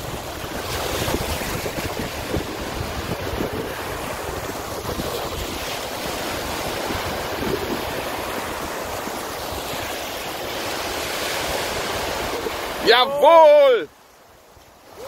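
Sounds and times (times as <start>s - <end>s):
wind rumbling on microphone: 0.0s - 12.9s
waves breaking on beach: 0.0s - 15.0s.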